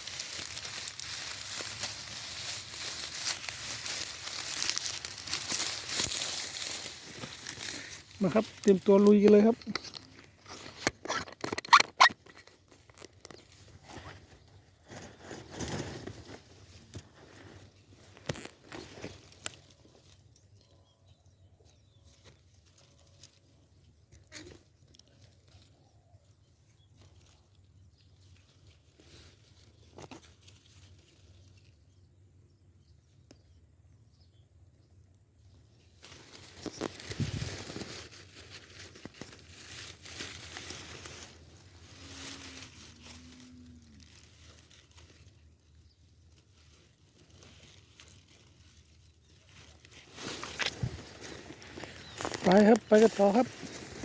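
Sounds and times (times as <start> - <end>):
dry grass rustling and crackling: 0.0 - 54.0.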